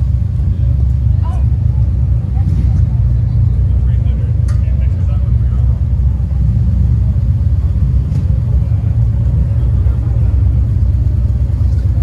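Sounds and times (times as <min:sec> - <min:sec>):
motorcycles rumbling: 0:00.0 - 0:12.0.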